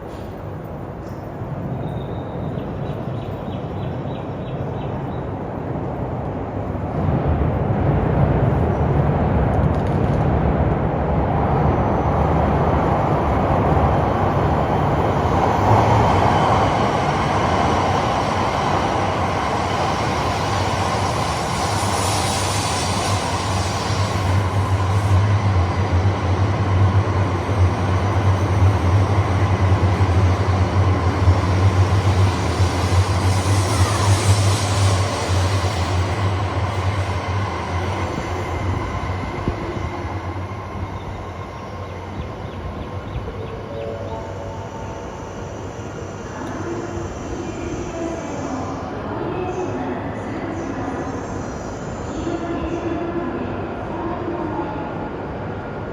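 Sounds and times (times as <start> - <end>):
train passing through station: 0.0 - 55.9.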